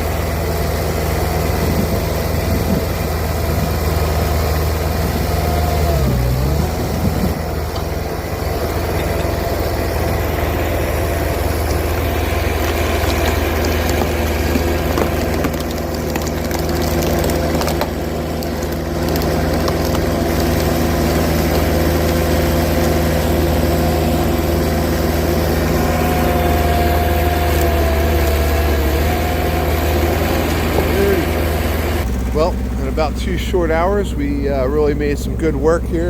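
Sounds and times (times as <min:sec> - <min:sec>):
skid steer engine running: 0:00.0 - 0:36.0.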